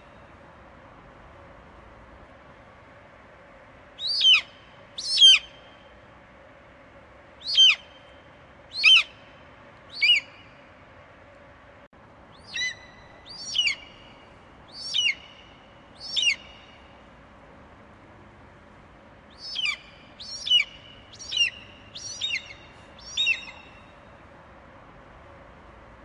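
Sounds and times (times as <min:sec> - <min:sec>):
faint hum and hiss: 0:00.0 - 0:26.0.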